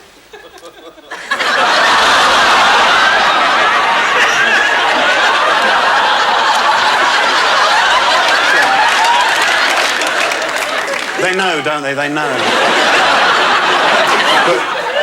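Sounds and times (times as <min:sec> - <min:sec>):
studio audience laughing: 0:00.1 - 0:15.0.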